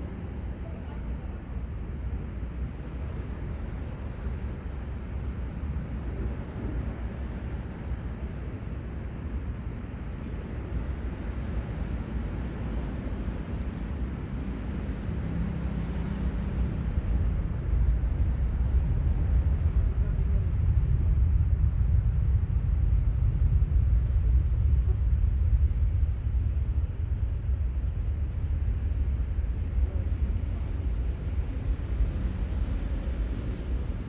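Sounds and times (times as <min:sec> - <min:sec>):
distant airplane rumble: 0:00.0 - 0:34.0.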